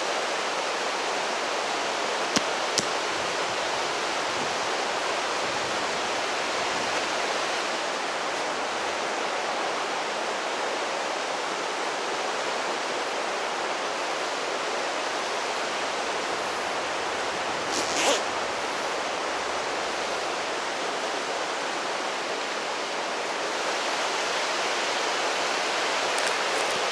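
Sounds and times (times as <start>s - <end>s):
river rapids rushing: 0.0s - 26.9s.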